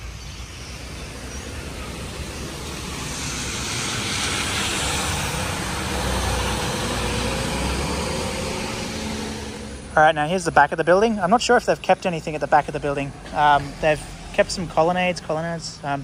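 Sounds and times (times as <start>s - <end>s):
vehicle passing: 0.0s - 15.9s.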